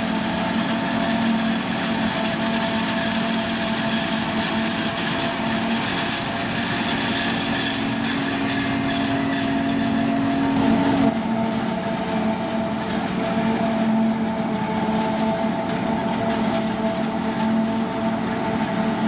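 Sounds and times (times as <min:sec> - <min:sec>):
harvester machine drone: 0:00.0 - 0:19.0
machine whine: 0:00.0 - 0:19.0.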